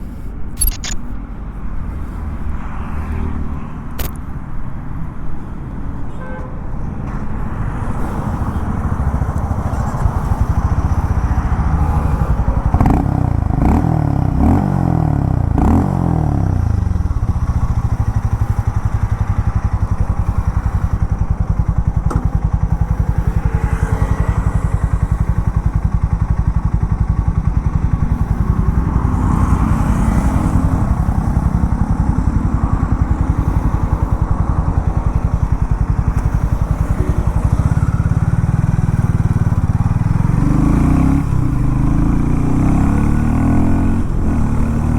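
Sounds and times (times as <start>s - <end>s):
motorcycle engine revving and idling: 7.0s - 44.9s.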